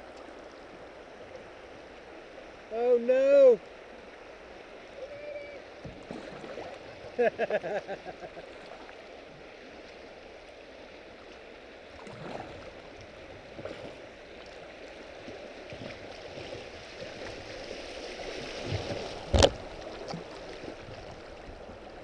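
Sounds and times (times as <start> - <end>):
river water rushing and splashing: 0.0 - 22.0.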